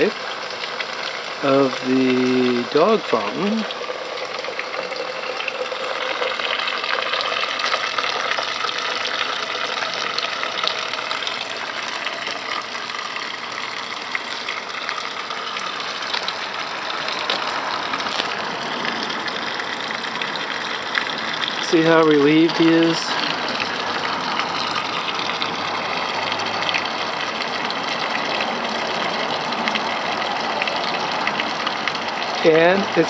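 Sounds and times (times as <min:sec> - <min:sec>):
fountain water splashing: 0:00.0 - 0:33.0.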